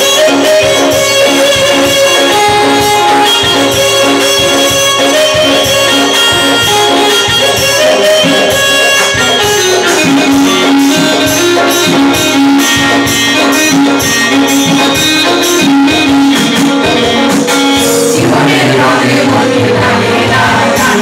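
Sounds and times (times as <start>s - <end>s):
loud music with steady beat: 0.0s - 21.0s.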